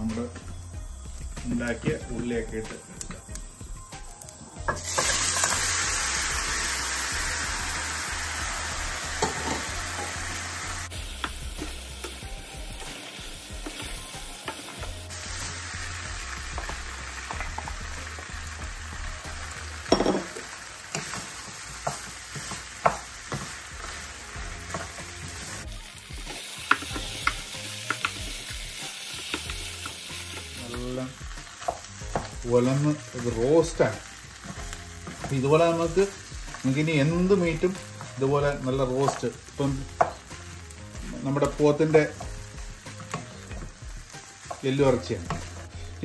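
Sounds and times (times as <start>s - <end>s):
meat sizzling in frying pan: 0.0s - 46.0s.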